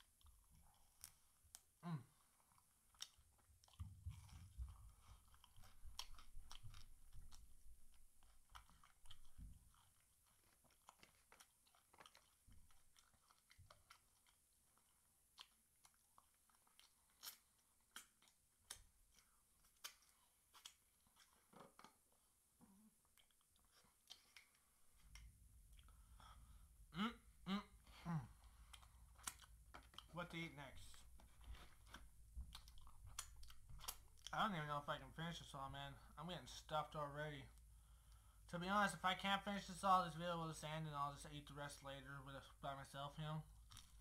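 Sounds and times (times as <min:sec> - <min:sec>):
chewing and crunching: 0:00.0 - 0:26.8, 0:27.8 - 0:35.6, 0:40.8 - 0:44.0.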